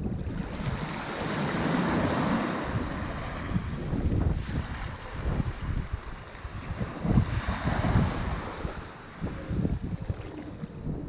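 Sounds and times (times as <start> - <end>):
ocean surf washing on shore: 0.0 - 11.0
wind buffeting microphone: 0.0 - 11.0.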